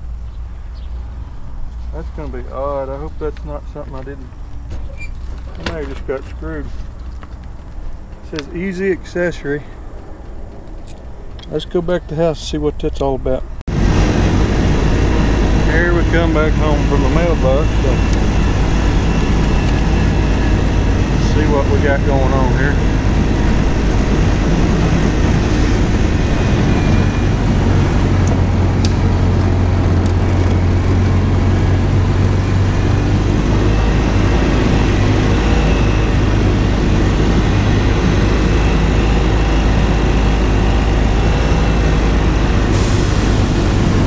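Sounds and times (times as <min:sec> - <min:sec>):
utility vehicle engine droning: 0:00.0 - 0:44.0.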